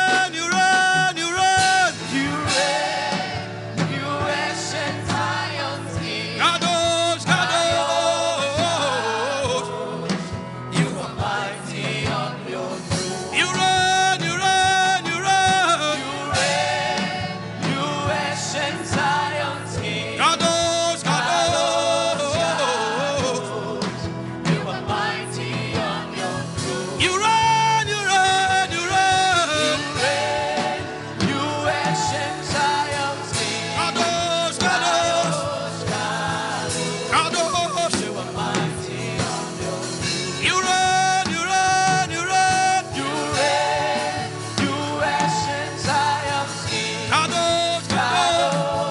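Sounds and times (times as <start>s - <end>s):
gospel singing with band: 0.0s - 48.9s.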